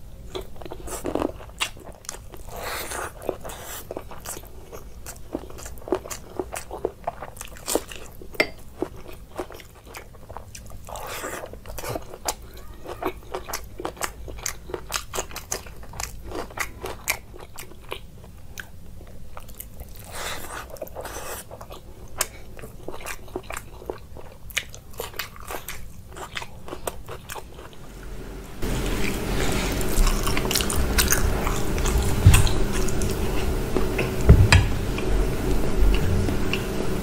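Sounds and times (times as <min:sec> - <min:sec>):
person chewing: 0:00.3 - 0:27.8, 0:28.6 - 0:36.6.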